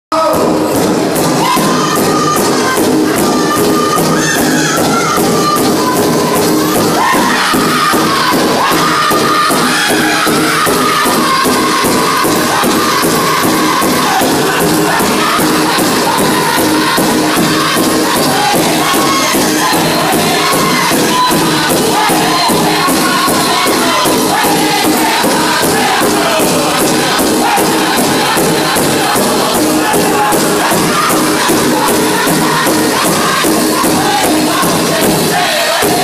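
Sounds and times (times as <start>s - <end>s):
large drum steady beat: 0.1s - 36.0s
group singing in high voices: 0.2s - 36.0s.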